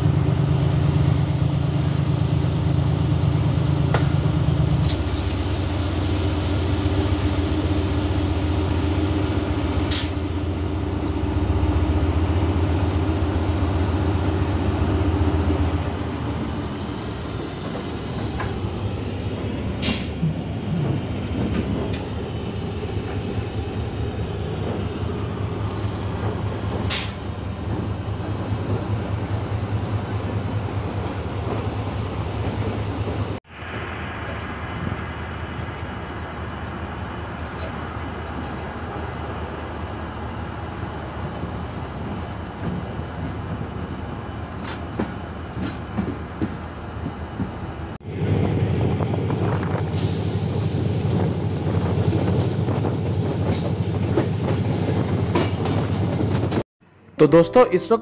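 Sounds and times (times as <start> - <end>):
diesel locomotive engine hum: 0.0 - 58.0.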